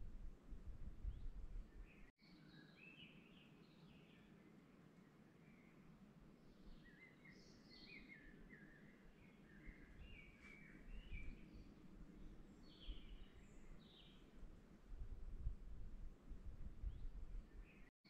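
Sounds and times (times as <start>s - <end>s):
songbirds chirping: 0.6s - 17.9s.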